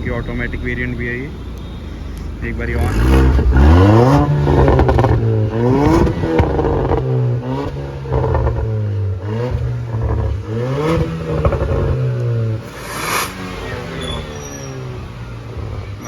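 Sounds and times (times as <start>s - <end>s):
car engine revving: 0.0s - 16.0s
exhaust crackles: 0.0s - 16.0s.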